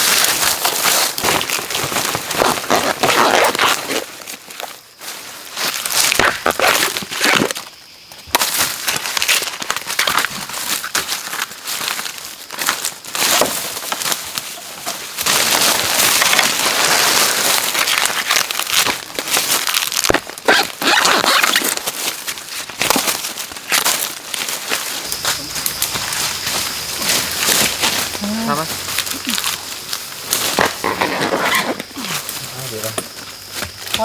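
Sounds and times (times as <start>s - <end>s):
dry plants rustling and crackling: 0.0s - 34.0s.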